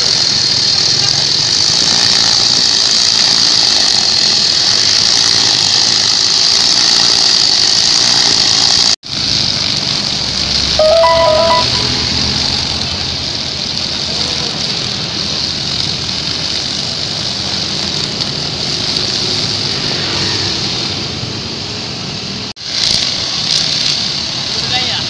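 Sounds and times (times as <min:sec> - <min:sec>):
brush cutter running: 0:00.0 - 0:20.7
trimmer line whirring through grass: 0:00.0 - 0:21.0
road traffic: 0:00.0 - 0:25.0.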